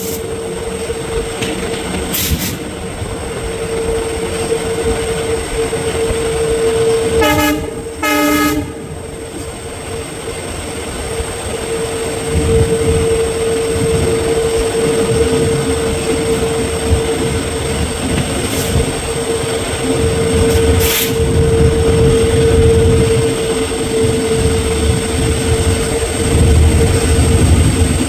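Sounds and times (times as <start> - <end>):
train coach rumbling on track: 0.0 - 28.0
constant humming tone: 2.9 - 28.0.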